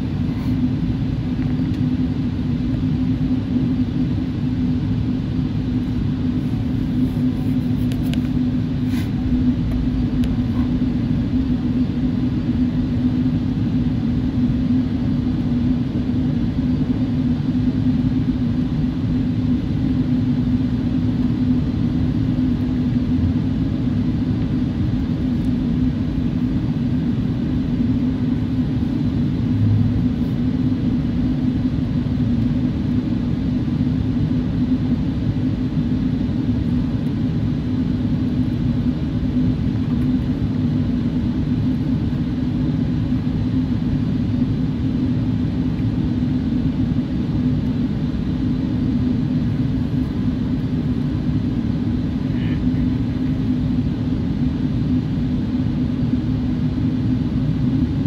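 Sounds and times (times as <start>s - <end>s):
aircraft cabin rumble: 0.0s - 58.0s
constant low hum: 0.0s - 58.0s.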